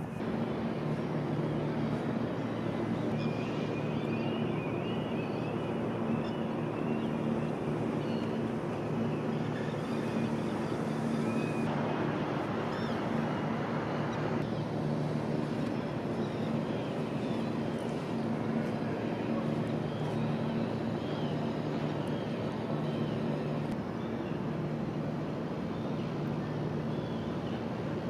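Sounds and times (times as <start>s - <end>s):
continuous background rush: 0.0s - 28.0s
low machinery hum: 0.0s - 28.0s.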